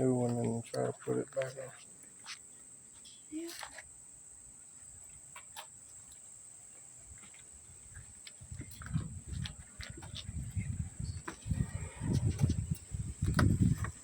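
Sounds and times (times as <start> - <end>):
high insect chirring: 0.0 - 14.0.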